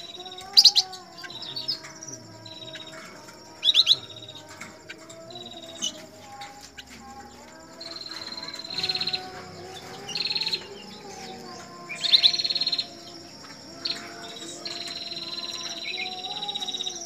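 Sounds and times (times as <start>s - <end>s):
songbird singing buzzy trills: 0.0s - 17.0s.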